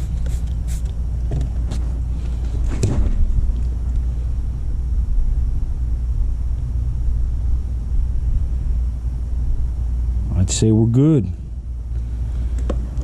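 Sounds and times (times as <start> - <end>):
low rumble: 2.4 - 13.0.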